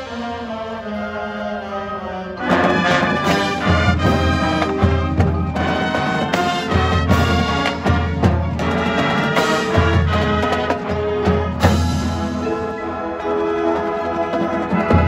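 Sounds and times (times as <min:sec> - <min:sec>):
brass sustained chords: 0:00.0 - 0:13.8
marching percussion: 0:02.4 - 0:15.0.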